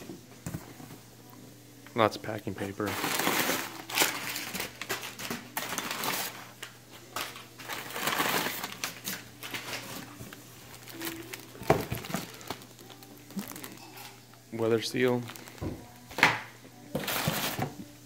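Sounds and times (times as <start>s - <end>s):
paper and plastic crinkling: 2.6s - 17.9s.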